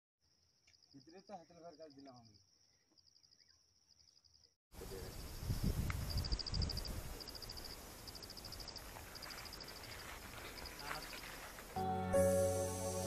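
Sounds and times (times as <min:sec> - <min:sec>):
insects chirping in trills: 0:00.2 - 0:13.0.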